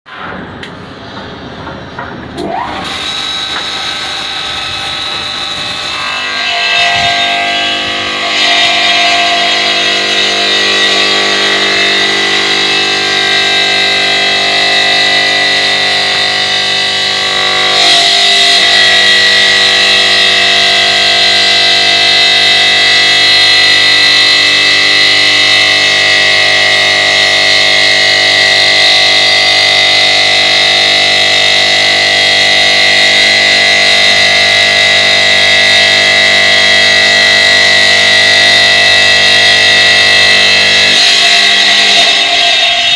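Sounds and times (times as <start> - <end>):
stone cutting machine whine: 2.4 - 42.9.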